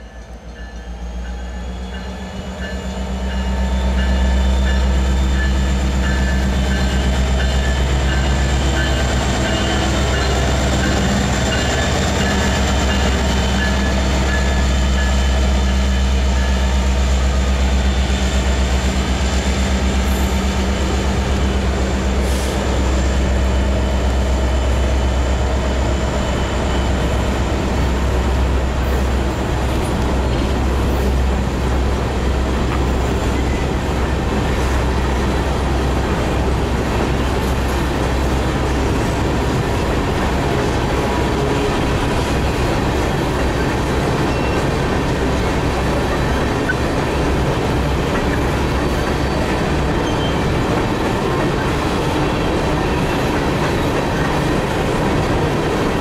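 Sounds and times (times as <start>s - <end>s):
locomotive engine drone: 0.0s - 56.0s
train wheel and rail noise: 0.0s - 56.0s.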